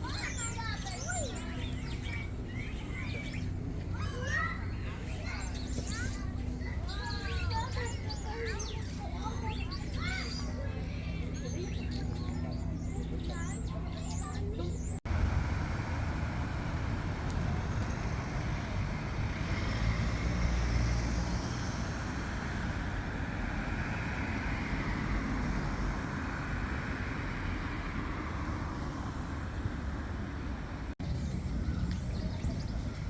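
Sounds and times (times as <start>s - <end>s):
vehicles passing on street: 0.0s - 33.0s.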